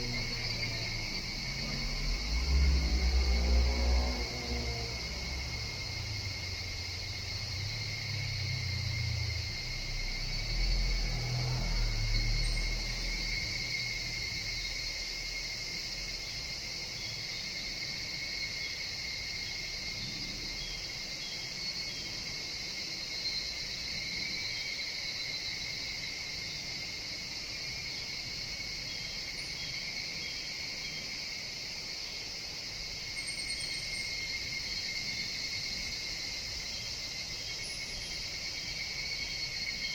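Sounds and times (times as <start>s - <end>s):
cicadas and insects chorus: 0.0s - 39.9s.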